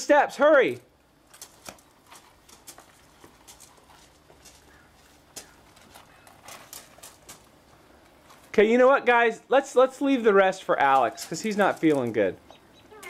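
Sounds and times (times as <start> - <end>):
footsteps on mulch and wooden steps: 1.2 - 8.8, 9.6 - 13.0.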